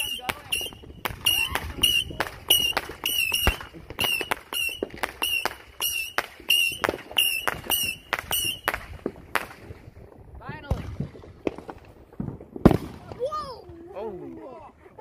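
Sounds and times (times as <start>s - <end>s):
fireworks popping: 0.0s - 13.8s.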